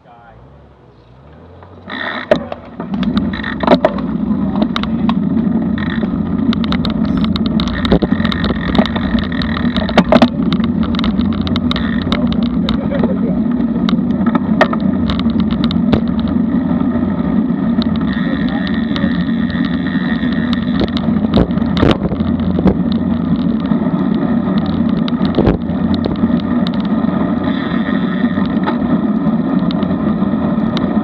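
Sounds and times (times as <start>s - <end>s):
bike clicks and knocks: 1.0s - 31.0s
wind buffeting microphone: 2.8s - 31.0s.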